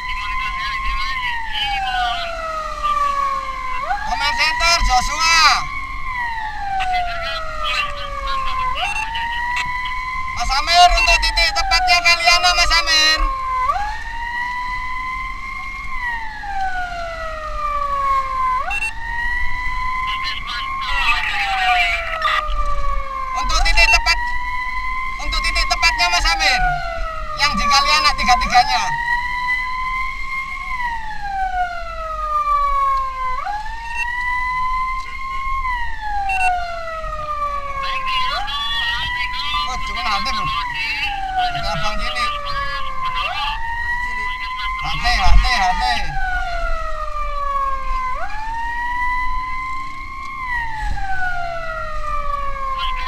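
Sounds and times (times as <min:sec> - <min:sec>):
emergency vehicle siren wailing: 0:00.0 - 0:53.0.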